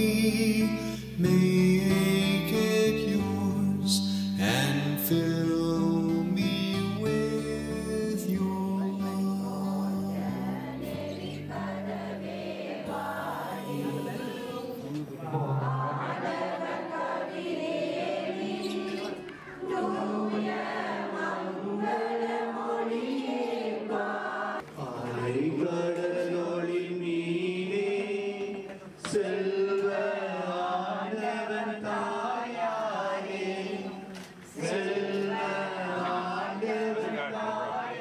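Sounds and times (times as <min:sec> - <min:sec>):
crowd singing a hymn: 0:00.0 - 0:38.0.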